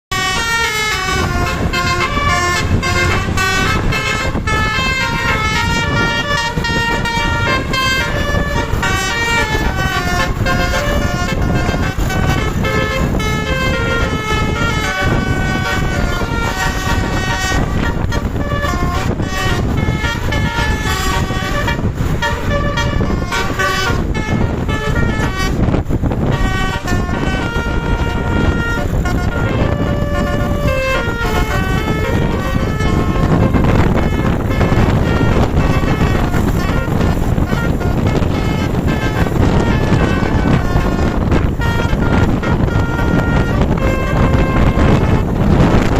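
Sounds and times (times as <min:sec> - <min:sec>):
multi-tone bus horn playing a tune: 0:00.1 - 0:45.9
steady low rumble: 0:00.1 - 0:45.9.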